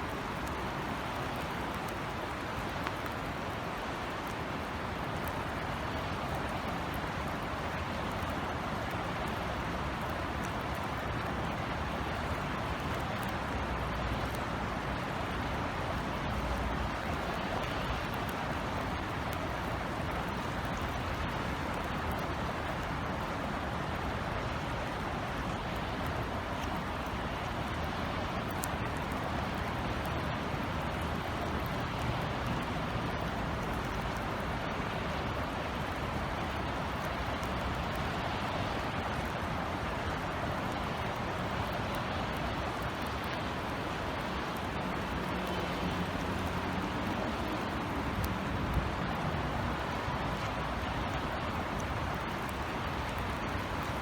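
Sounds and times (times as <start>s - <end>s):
raindrops ticking: 0.0s - 54.0s
steady rain falling: 0.0s - 54.0s.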